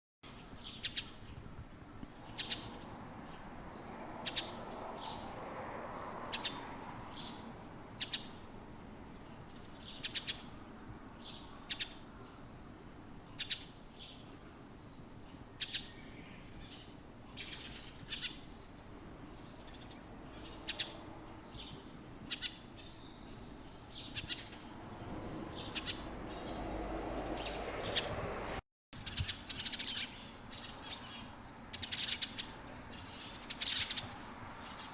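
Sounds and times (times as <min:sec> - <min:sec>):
songbirds chirping: 0:00.2 - 0:34.9.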